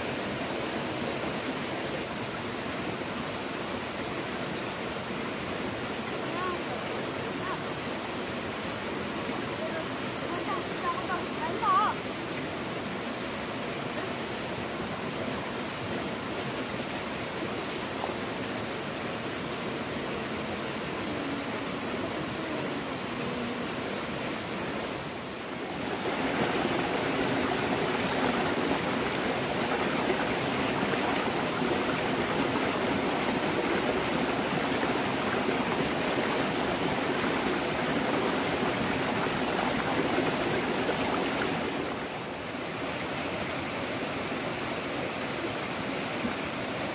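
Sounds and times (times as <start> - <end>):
stream running over stones: 0.0 - 46.9.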